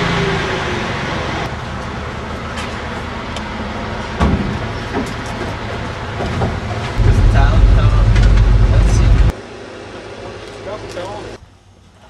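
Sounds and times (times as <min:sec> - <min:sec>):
vehicle engine running: 0:01.5 - 0:11.4.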